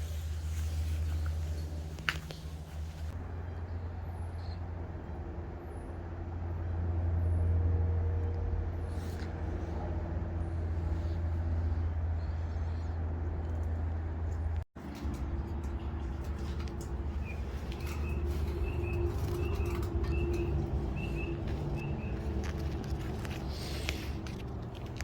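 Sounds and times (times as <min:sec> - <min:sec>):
aeroplane passing overhead: 0:00.0 - 0:25.0.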